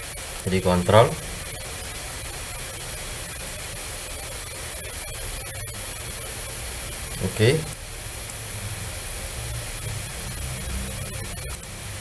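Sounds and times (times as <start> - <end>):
low hum: 0.0 - 12.0
steady background hiss: 0.0 - 12.0.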